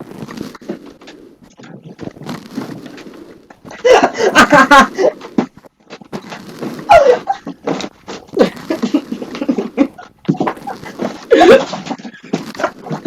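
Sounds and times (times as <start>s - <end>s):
mouth noises: 0.0s - 13.0s.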